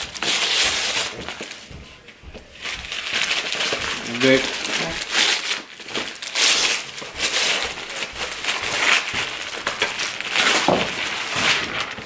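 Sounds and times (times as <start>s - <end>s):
wrapping paper tearing and crumpling: 0.0s - 1.6s, 2.6s - 12.0s.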